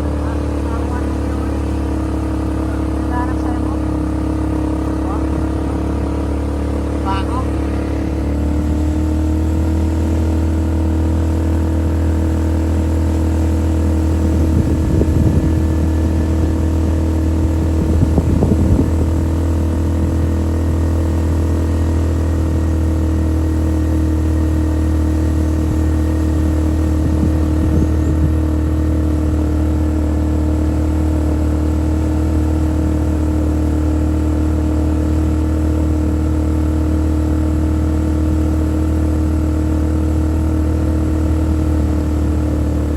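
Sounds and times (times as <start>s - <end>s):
off-road vehicle engine humming: 0.0s - 42.9s.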